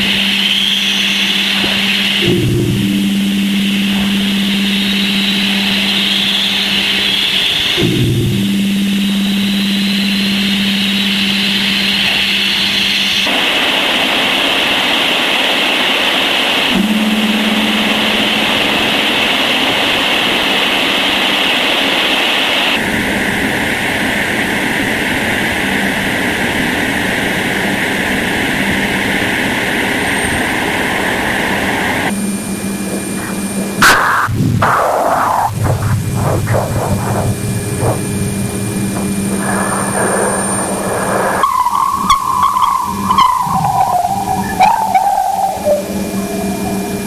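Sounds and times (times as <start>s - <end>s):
continuous hissing noise: 0.0s - 47.0s
low steady hum: 0.0s - 47.0s.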